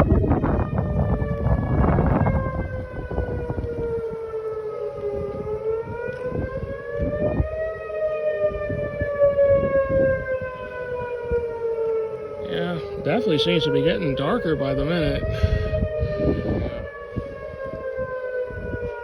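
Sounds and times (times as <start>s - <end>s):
storm warning siren wailing: 0.0s - 19.0s
wind buffeting microphone: 0.0s - 19.0s.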